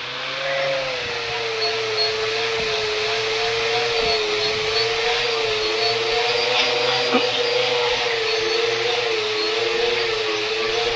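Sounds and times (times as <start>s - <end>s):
angle grinder on metal: 0.0s - 10.9s.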